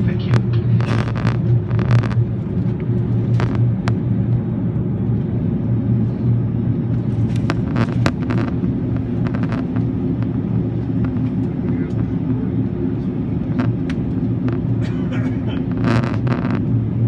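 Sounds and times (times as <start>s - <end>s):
airplane cabin rumble and hum: 0.0s - 17.0s.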